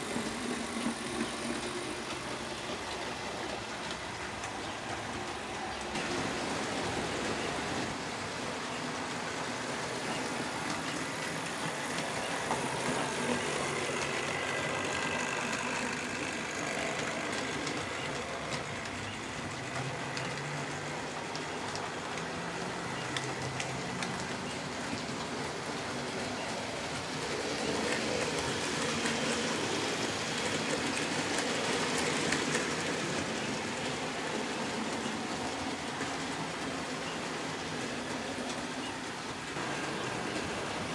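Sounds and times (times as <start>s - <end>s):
model train whirring on track: 0.0s - 40.9s.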